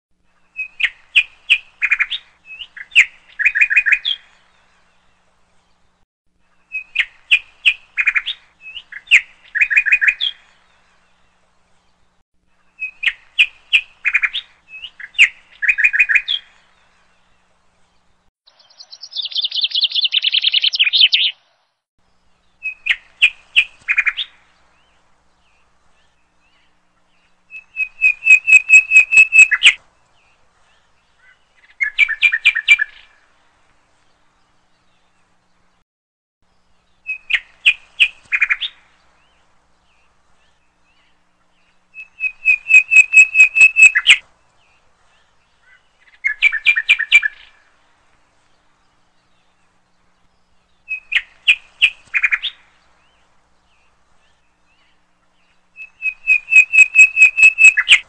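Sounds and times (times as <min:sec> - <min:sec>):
songbird chirps and trills: 0:00.2 - 0:35.8, 0:36.4 - 0:58.0.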